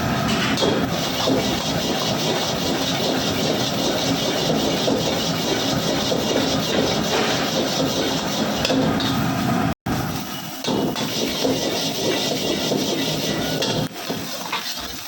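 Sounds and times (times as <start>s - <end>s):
rice sizzling in a pan: 0.2s - 8.7s, 9.9s - 15.0s.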